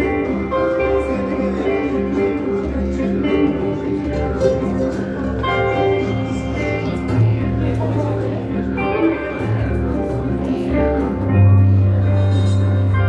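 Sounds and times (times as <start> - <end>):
ambient music with held notes: 0.0 - 13.0.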